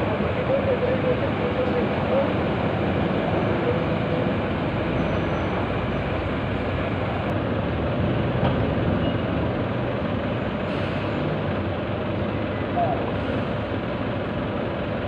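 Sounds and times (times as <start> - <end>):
diesel machinery rumble: 0.0 - 15.0
road traffic: 0.0 - 15.0.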